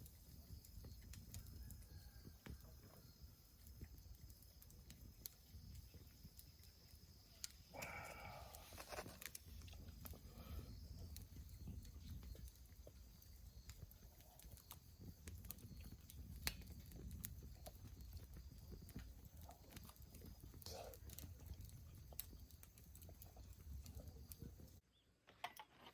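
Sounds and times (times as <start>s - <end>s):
faint irregular clicks: 0.0s - 24.8s.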